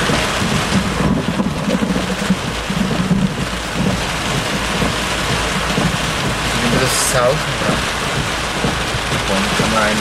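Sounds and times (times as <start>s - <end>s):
heavy rain falling: 0.0s - 10.0s
rumble of thunder: 0.0s - 10.0s.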